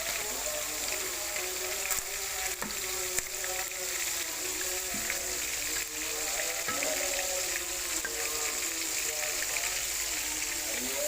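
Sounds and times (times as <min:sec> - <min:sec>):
fish sizzling in oil: 0:00.0 - 0:11.0
oil crackles and pops: 0:00.0 - 0:11.0.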